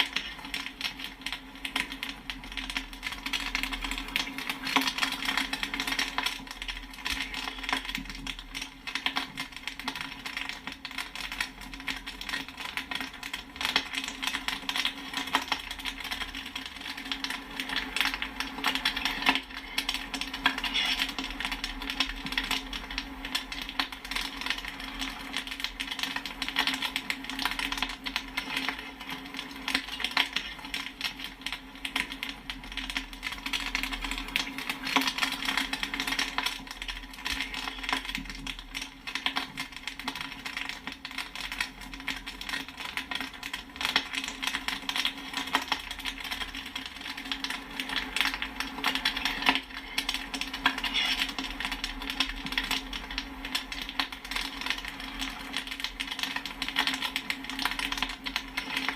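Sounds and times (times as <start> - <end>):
popcorn popping: 0.0 - 58.9.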